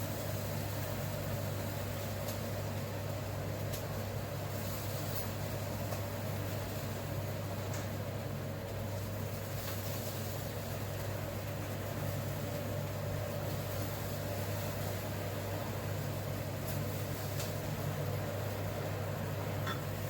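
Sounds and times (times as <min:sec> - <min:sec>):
appliance or fan humming: 0:00.0 - 0:20.0.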